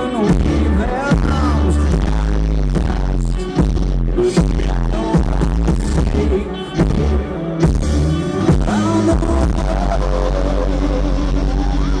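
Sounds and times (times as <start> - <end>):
rock band playing live: 0.0 - 12.0.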